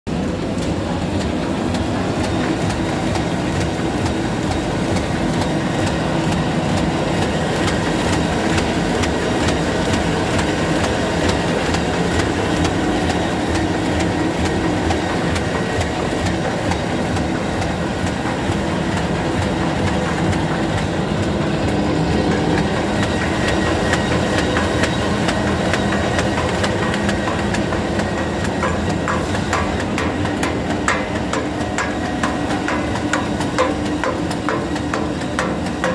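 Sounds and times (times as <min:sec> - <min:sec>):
machine humming: 0:00.1 - 0:35.9
fast clicking clatter of sheets: 0:00.5 - 0:35.9.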